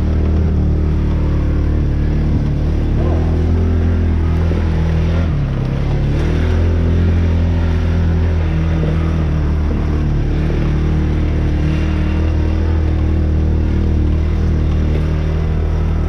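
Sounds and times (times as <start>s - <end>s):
off-road buggy engine running: 0.0s - 16.0s.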